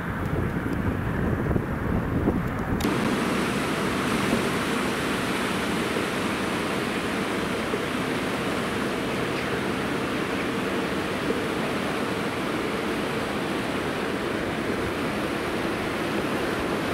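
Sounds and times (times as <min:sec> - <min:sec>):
turbulent water rushing: 0:02.8 - 0:16.9.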